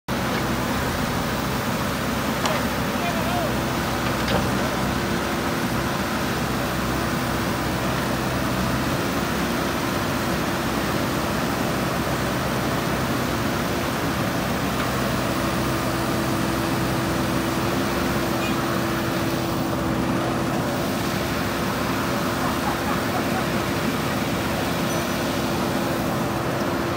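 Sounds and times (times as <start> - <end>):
diesel engine running: 0.1 - 26.9.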